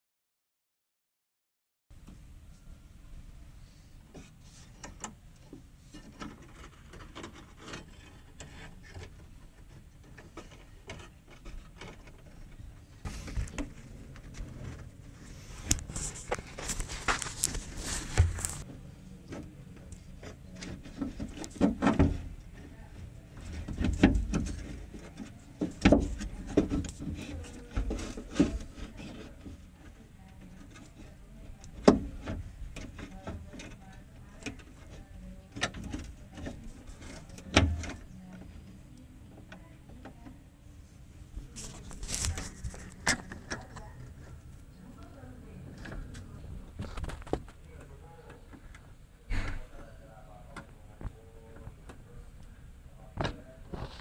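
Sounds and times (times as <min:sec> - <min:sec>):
handling wiring and metal parts: 0:03.9 - 0:54.0.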